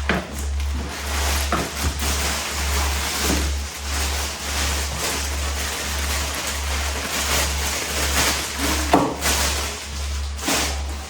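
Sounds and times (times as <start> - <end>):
rustling and handling noises: 0.1 - 11.0.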